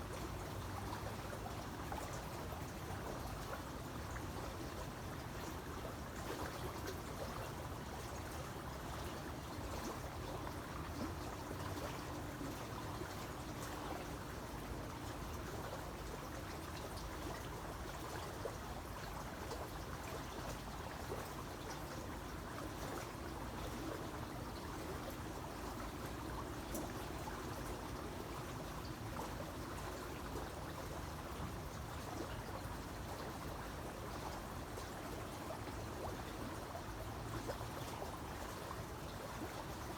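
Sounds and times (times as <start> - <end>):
creek water trickling over stones: 0.0 - 39.9.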